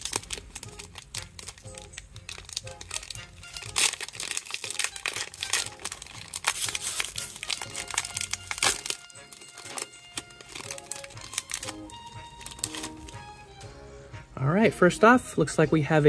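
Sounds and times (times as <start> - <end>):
foil wrapper crinkling and tearing: 0.0 - 13.3
faint music: 0.0 - 16.0.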